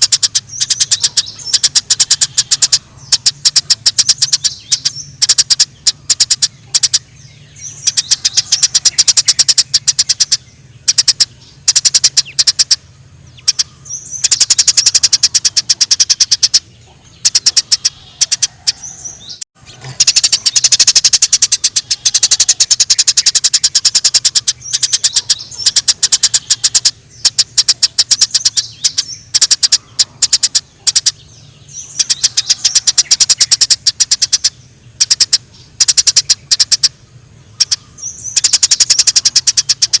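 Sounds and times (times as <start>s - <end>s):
low steady hum: 0.0s - 40.0s
sparrows chirping: 0.0s - 40.0s.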